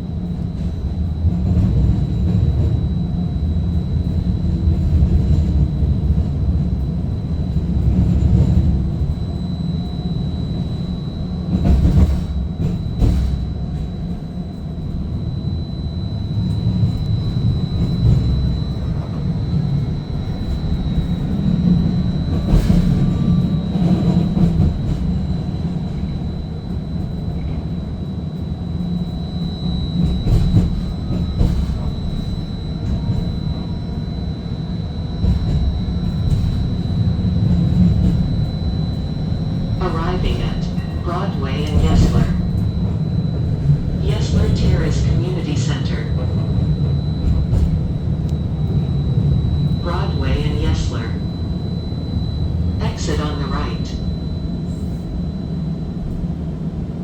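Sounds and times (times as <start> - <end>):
streetcar rumbling: 0.0 - 57.0.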